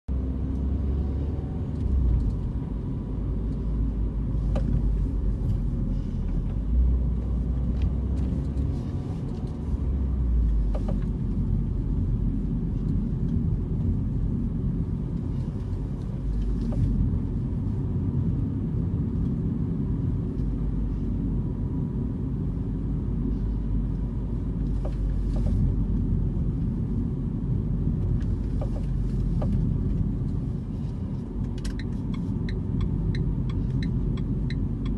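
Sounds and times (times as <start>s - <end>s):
car engine low rumble: 0.0s - 34.9s.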